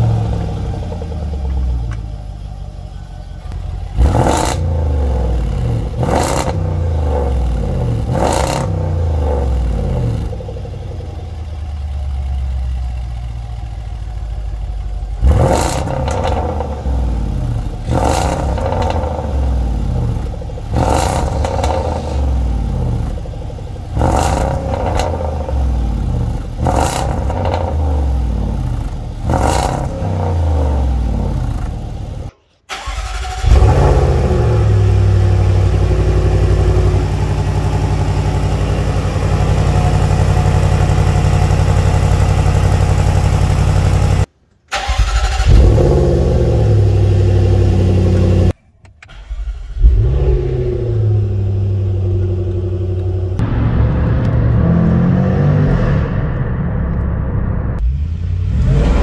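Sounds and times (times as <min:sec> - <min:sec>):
car engine revving: 0:00.0 - 0:59.0
car engine starting and idling: 0:00.0 - 0:59.0.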